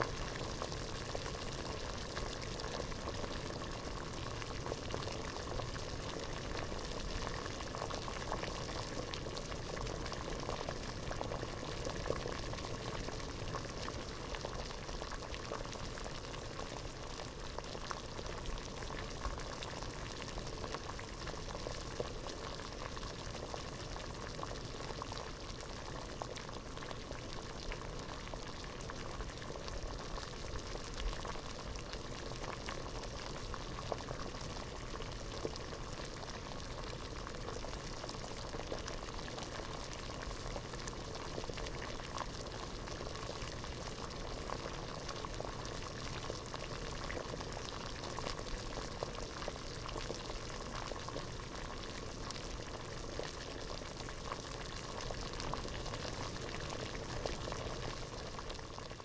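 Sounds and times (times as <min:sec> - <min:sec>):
water boiling in a pot: 0:00.0 - 0:59.0.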